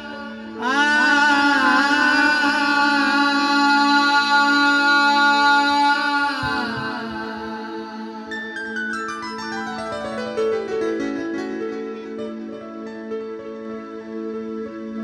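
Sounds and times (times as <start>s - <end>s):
devotional singing with keyboard: 0.0s - 12.2s.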